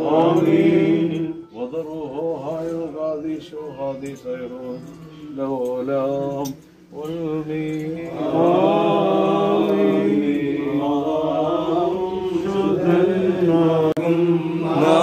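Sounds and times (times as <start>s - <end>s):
voices chanting a sung prayer: 0.0s - 15.0s.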